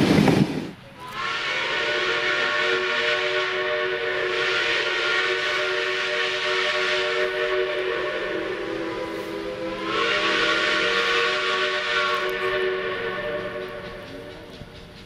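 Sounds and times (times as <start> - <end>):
steam locomotive whistle: 1.0 - 14.8.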